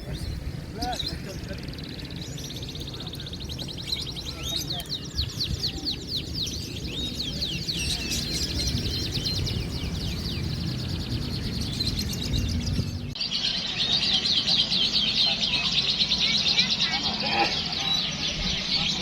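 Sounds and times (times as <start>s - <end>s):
crowd hubbub: 0.0s - 12.3s, 13.0s - 19.0s
songbirds chirping and trilling: 0.0s - 19.0s.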